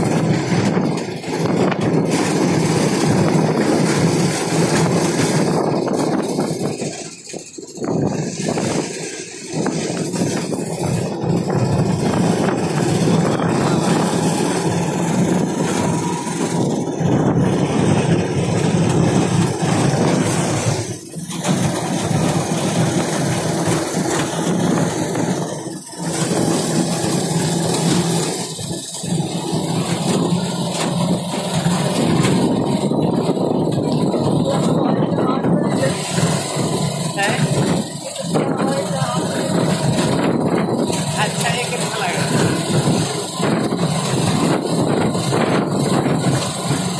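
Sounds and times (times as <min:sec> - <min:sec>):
auto-rickshaw engine running: 0:00.0 - 0:46.9
road noise: 0:00.0 - 0:46.9
wind: 0:00.0 - 0:46.9.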